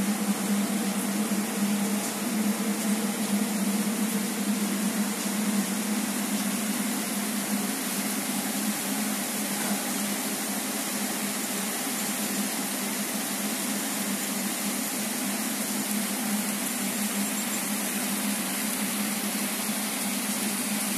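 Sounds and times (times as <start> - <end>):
heavy rain hissing: 0.0 - 20.9.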